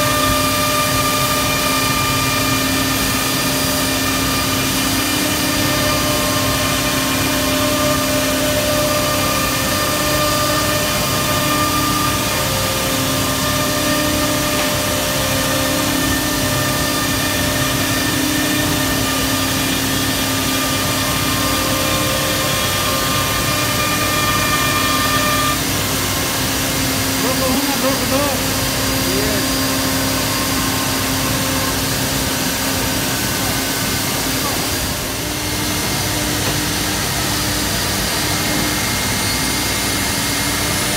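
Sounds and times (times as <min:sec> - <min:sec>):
router cutting board with rushing noise: 0:00.0 - 0:40.9.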